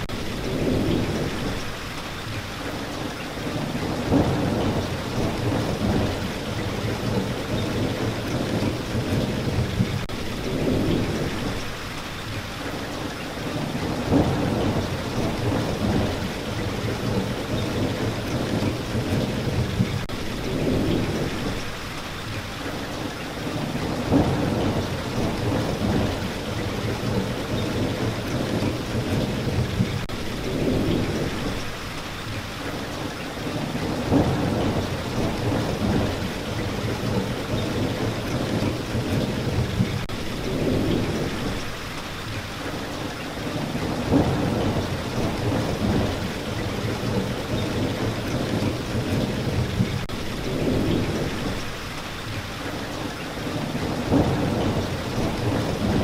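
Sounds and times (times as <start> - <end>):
thunder rumbling: 0.0 - 1.8, 3.4 - 11.8, 13.5 - 21.8, 23.5 - 31.8, 33.4 - 41.8, 43.4 - 51.8, 53.4 - 56.0
steady rain: 0.0 - 56.0.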